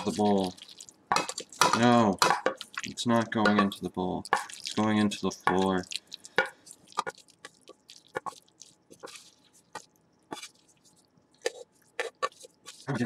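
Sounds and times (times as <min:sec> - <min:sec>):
wet squishes of food: 0:00.0 - 0:13.0.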